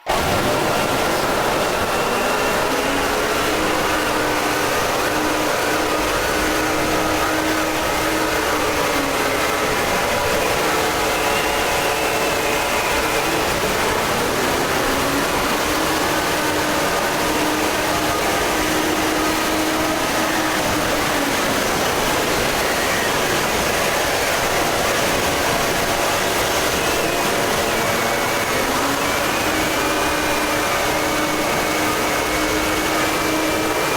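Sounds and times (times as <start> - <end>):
harsh rushing alarm noise: 0.0 - 33.9
loud steady hiss: 0.0 - 33.9.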